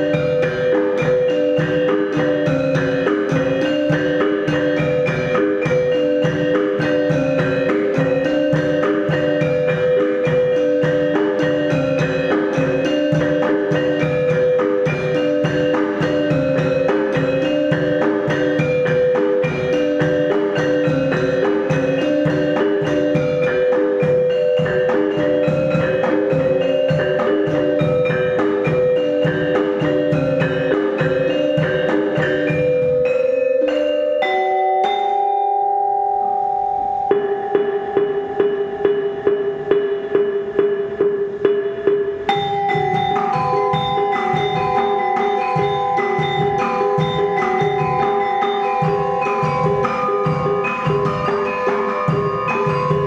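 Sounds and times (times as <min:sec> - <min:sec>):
mallet percussion pattern: 0:00.0 - 0:53.0.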